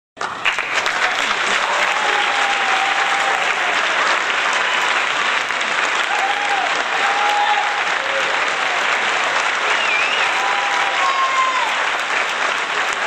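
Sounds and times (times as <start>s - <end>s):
crowd applauding: 0.2s - 13.0s.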